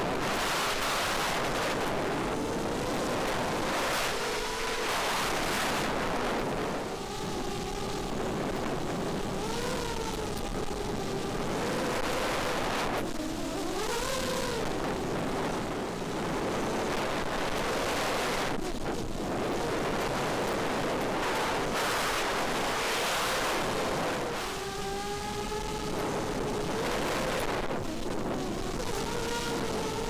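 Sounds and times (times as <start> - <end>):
quadcopter motors whining: 0.0 - 30.0
rushing wind: 0.0 - 30.0.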